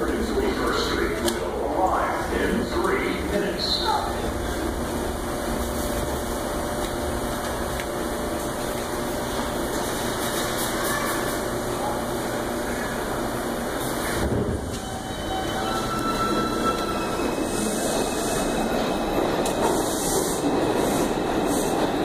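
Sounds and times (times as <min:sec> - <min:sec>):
subway train humming: 0:00.0 - 0:22.0.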